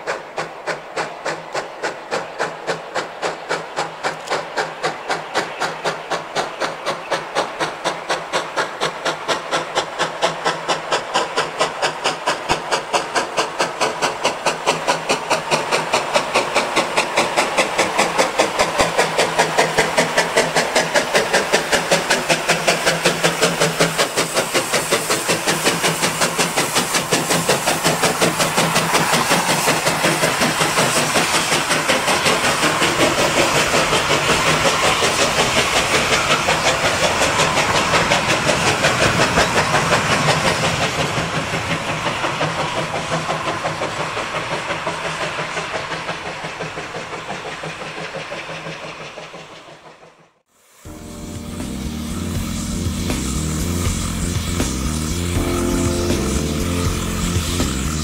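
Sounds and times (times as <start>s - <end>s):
steam hiss: 0.0s - 58.0s
steam locomotive chuffing: 0.0s - 58.0s.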